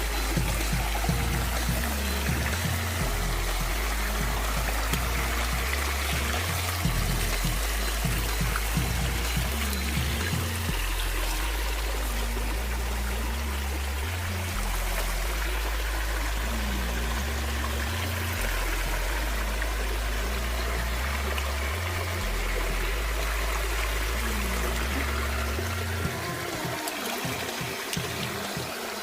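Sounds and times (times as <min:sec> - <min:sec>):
music with deep bass line: 0:00.0 - 0:29.0
running water: 0:00.0 - 0:29.0.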